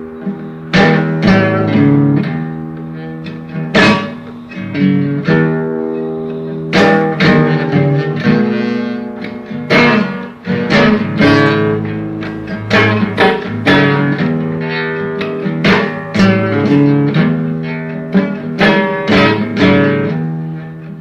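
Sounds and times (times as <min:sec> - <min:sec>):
strummed blues guitar chords: 0:00.0 - 0:21.0.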